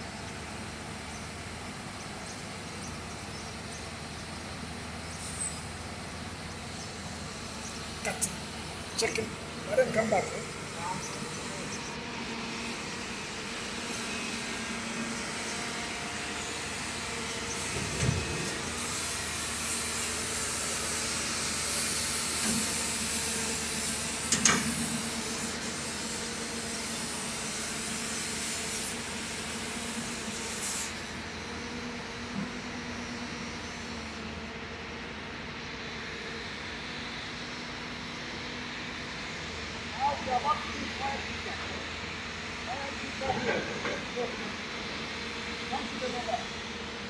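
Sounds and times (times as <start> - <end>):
machinery running with a hiss: 0.0 - 47.0.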